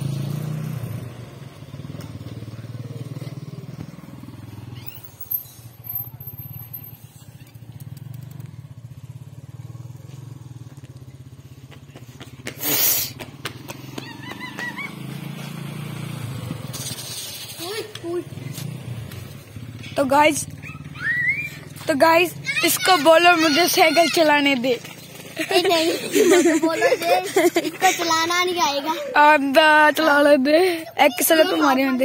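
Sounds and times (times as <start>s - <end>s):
motorcycle engine running: 0.0s - 26.7s.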